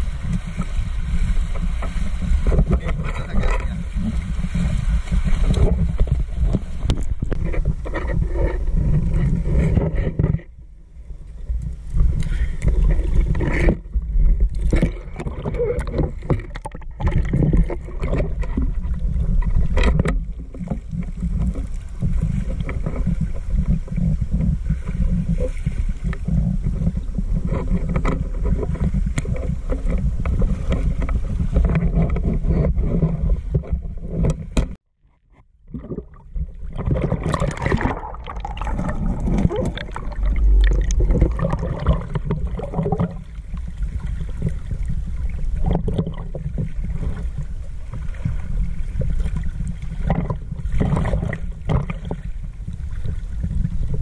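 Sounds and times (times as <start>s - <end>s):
water sloshing and splashing: 0.0s - 54.0s.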